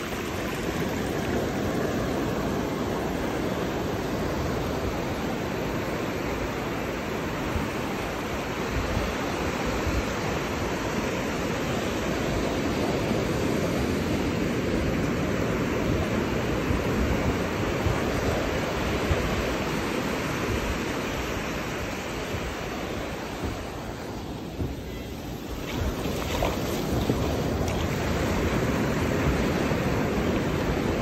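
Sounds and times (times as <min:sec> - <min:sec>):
surf washing over sand: 0:00.0 - 0:31.0.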